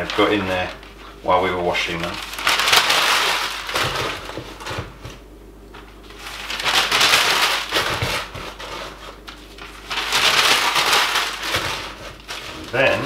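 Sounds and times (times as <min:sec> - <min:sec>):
newspaper crumpling: 0:00.0 - 0:04.8, 0:06.0 - 0:13.0.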